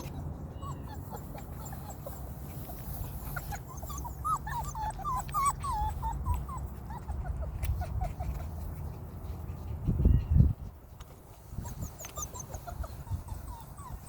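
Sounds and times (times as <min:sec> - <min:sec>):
puppies whimpering and whining: 0:00.0 - 0:14.0.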